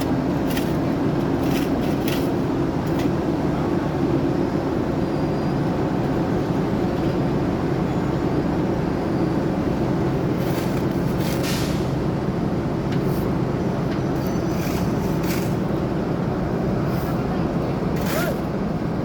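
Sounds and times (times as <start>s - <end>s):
heavy machinery engine rumble: 0.0s - 19.0s.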